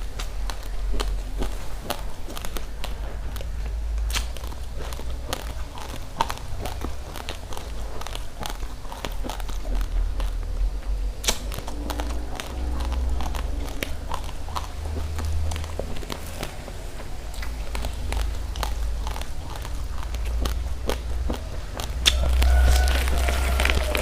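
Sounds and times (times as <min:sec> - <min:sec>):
chewing crunchy rice: 0:00.0 - 0:24.0
low rumble: 0:00.0 - 0:24.0.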